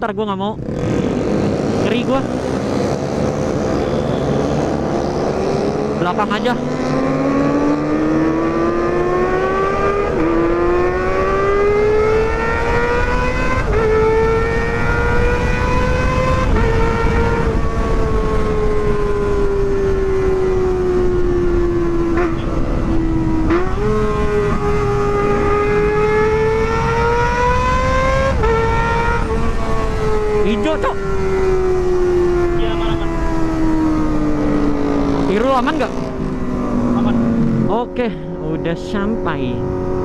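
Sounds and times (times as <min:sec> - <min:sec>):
motorcycle engine revving high: 0:00.5 - 0:40.0.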